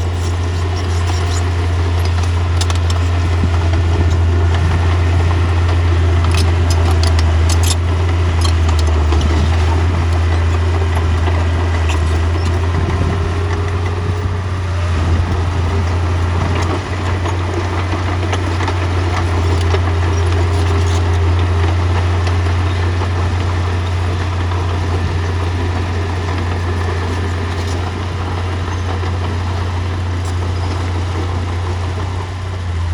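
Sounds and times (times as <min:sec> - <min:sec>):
bulldozer diesel engine droning: 0:00.0 - 0:32.9.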